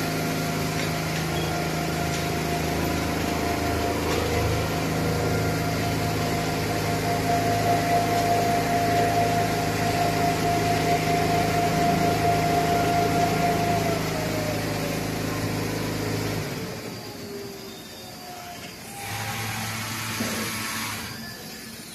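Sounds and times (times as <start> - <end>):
machinery hum: 0.0 - 21.9
machinery whine: 0.0 - 21.9.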